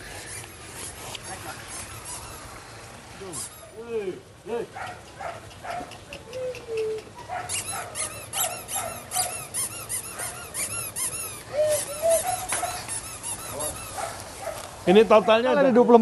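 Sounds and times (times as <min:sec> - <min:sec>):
puppies squealing and yipping: 0:00.0 - 0:03.8, 0:04.8 - 0:15.6.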